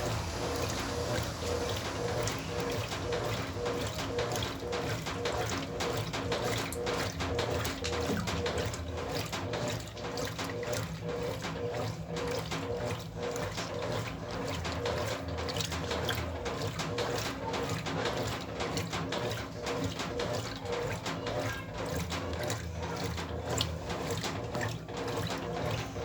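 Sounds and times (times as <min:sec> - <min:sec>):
washing machine motor hum: 0:00.0 - 0:26.0
water and clothes sloshing: 0:00.0 - 0:26.0.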